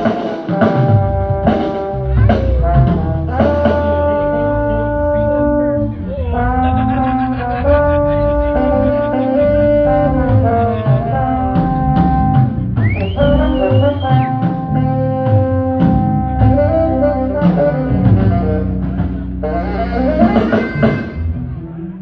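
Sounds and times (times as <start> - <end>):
bass line: 0.0 - 22.0
drums: 0.0 - 22.0
guitar notes: 0.0 - 22.0
horn notes: 0.0 - 22.0.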